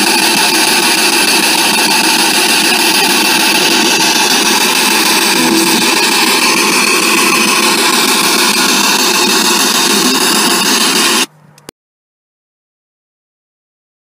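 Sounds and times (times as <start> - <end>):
radio static hissing: 0.0 - 11.3.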